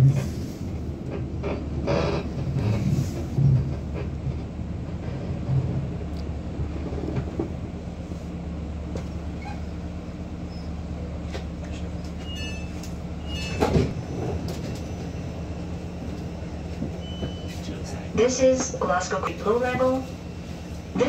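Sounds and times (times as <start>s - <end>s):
train low hum: 0.0s - 21.0s.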